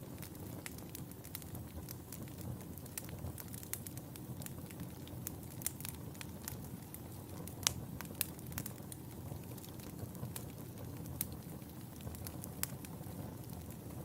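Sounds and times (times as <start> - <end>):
low rumble of flame: 0.0 - 14.0
wood fire crackling and popping: 0.0 - 14.0.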